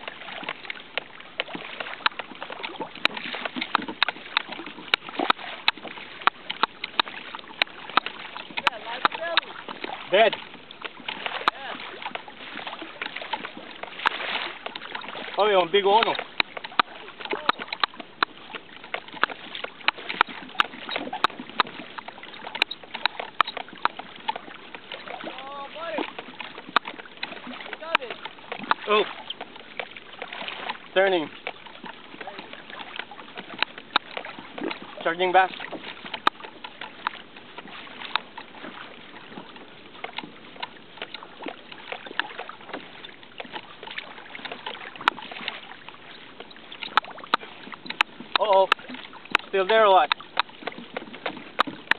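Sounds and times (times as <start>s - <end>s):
kayak tackle clicks and taps: 0.0s - 51.9s
small waves lapping against hull: 0.0s - 51.9s.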